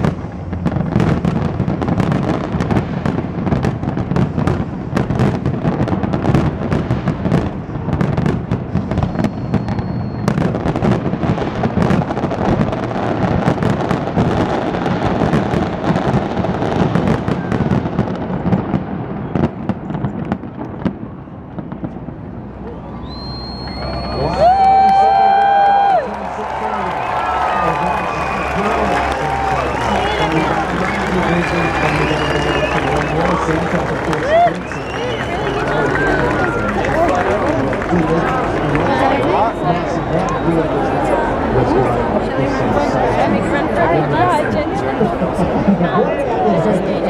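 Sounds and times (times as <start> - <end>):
fireworks bangs and crackling: 0.0 - 22.4, 23.1 - 41.5.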